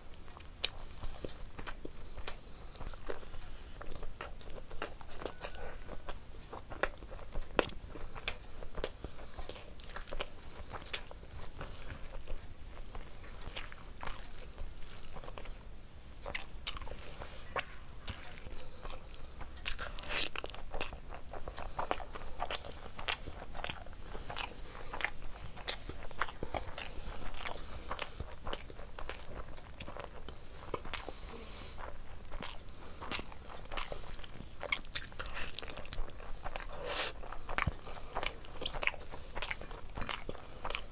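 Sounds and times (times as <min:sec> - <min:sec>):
chewing and mouth smacking: 0:00.0 - 0:15.6, 0:16.2 - 0:40.9.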